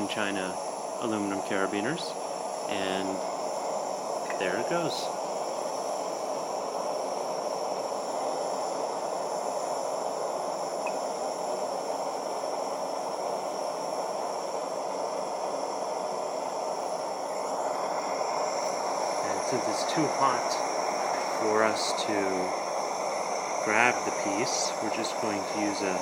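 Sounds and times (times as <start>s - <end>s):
furnace burner rushing: 0.0s - 26.0s.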